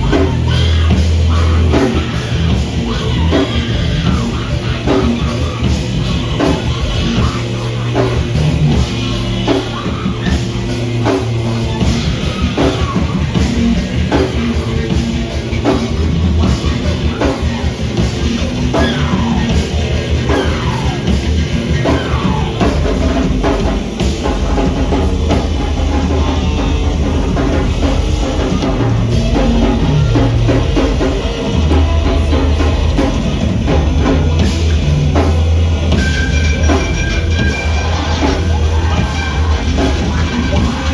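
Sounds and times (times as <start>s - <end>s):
drum kit hitting hard: 0.0s - 40.9s
rock band playing: 0.0s - 40.9s
sliding pitched notes: 0.0s - 40.9s.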